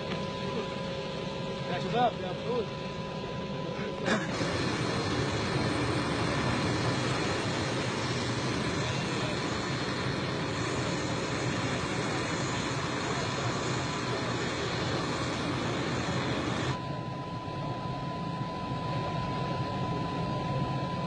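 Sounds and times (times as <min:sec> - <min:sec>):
aircraft engines rushing: 0:00.0 - 0:21.0.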